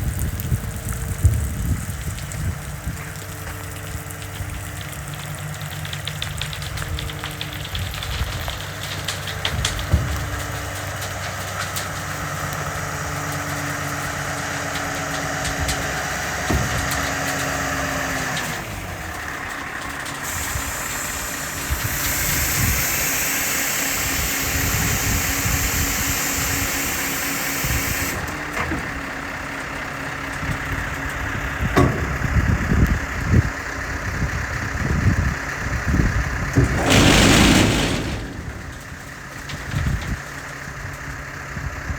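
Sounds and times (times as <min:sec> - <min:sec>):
diesel engine idling: 0:02.4 - 0:41.9.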